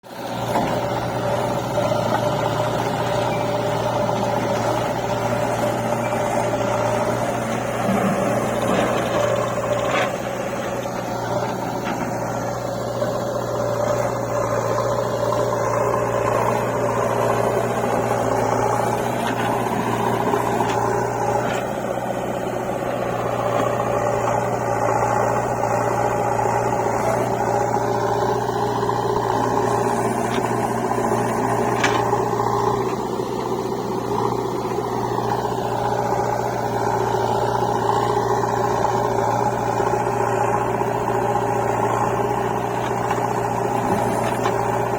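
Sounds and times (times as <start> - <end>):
diesel engine of heavy machinery: 0.0 - 44.9.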